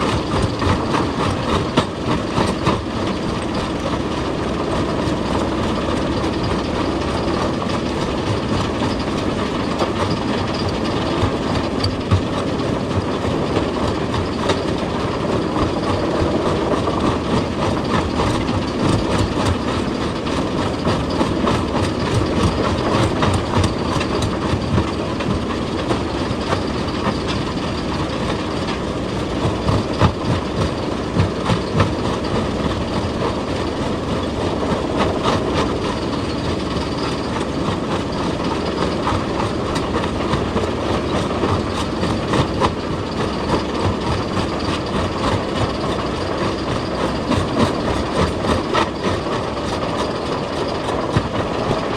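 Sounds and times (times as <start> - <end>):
diesel engine running: 0.0 - 51.9
excavator clanking on rock: 0.0 - 51.9.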